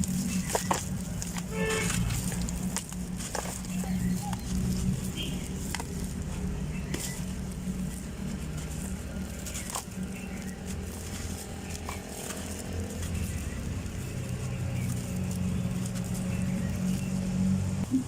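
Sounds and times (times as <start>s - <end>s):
dry sand-cement crumbling: 0.0s - 18.0s.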